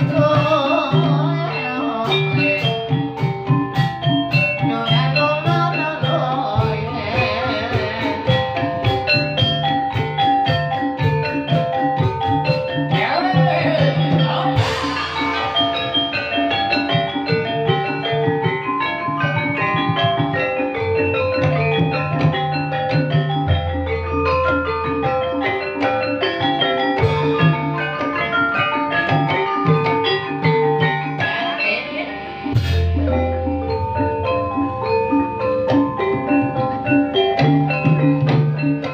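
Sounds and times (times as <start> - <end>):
drums: 0.0 - 38.9
gliding melodic line: 0.0 - 38.9
metallophones playing: 0.0 - 38.9.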